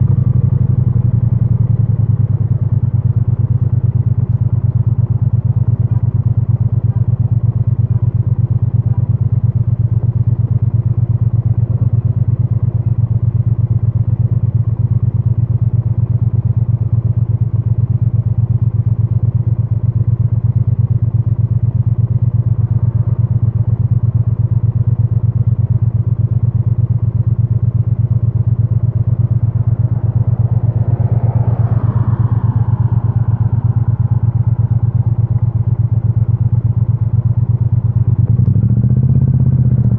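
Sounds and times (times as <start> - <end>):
muffled motorcycle engine idling: 0.0 - 39.9.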